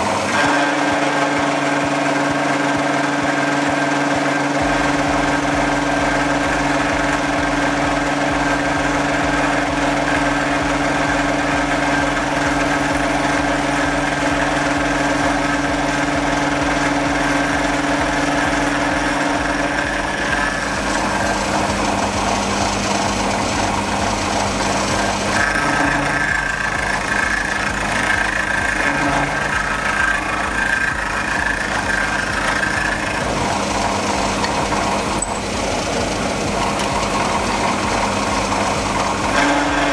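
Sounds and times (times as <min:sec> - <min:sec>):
high steady whine: 0:00.0 - 0:39.4
milling machine humming: 0:00.0 - 0:39.9.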